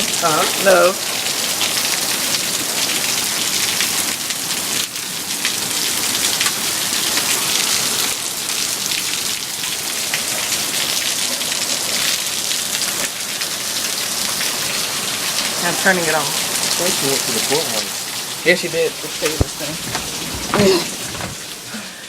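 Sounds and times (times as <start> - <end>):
hail and heavy rain pelting: 0.0 - 22.0.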